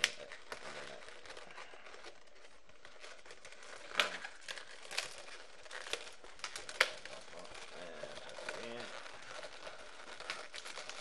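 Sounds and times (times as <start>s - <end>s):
rubbing and crinkling latex balloons: 0.0s - 11.0s.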